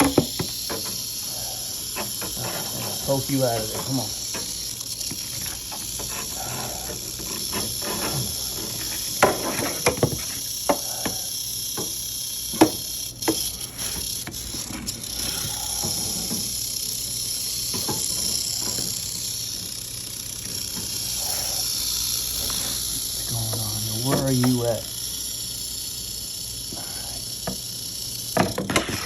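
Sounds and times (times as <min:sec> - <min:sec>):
rattlesnake rattling: 0:00.0 - 0:29.0.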